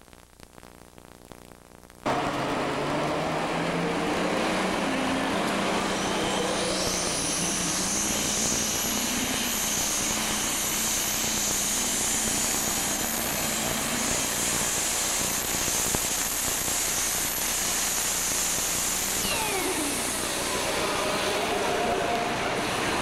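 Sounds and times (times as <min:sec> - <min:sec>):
tractor engine at full throttle: 0:02.1 - 0:21.6
high-pitched whine: 0:02.1 - 0:23.0.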